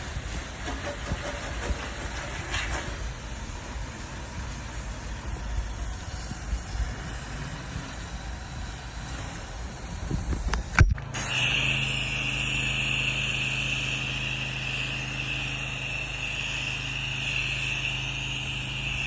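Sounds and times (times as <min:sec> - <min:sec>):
pressure washer engine running: 0:00.0 - 0:19.0
water spraying hiss: 0:00.0 - 0:19.0.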